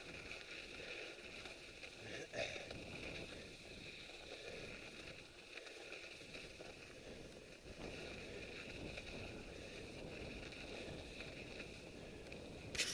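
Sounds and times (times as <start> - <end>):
bike tyres rolling on snow: 0.0 - 12.9.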